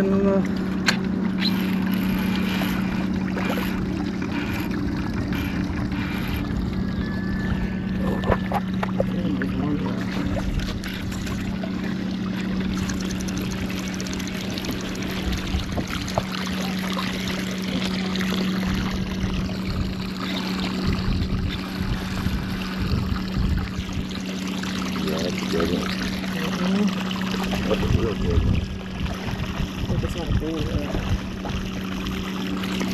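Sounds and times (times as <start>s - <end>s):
steady low hum: 0.0s - 32.9s
water splashing and trickling: 0.0s - 32.9s.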